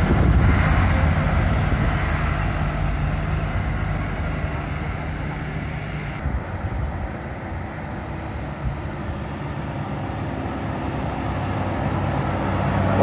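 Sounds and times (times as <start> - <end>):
distant vehicle: 0.0 - 13.0
trucks climbing hill: 0.0 - 13.0
van passing: 0.0 - 13.0.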